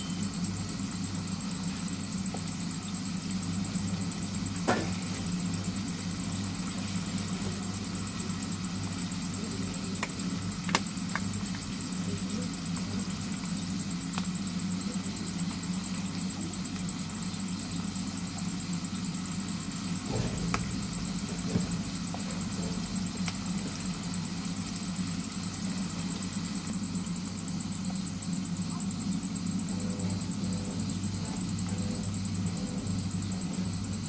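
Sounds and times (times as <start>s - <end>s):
constant hiss: 0.0s - 34.0s
low engine-like hum: 0.0s - 34.0s.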